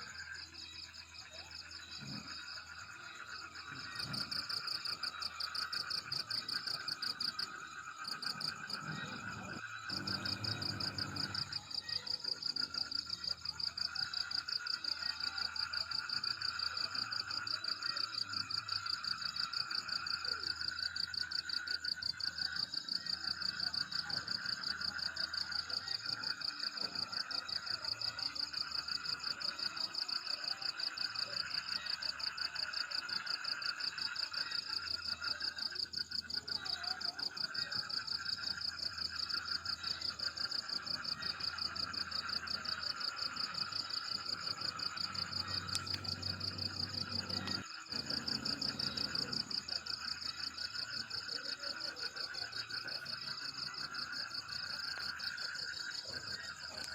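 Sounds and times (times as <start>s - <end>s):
frogs calling: 0.0s - 56.9s
insects chirping: 0.0s - 56.9s.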